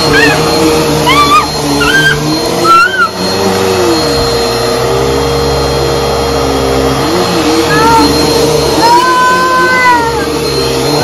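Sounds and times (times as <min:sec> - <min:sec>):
vacuum cleaner running on carpet: 0:00.0 - 0:11.0.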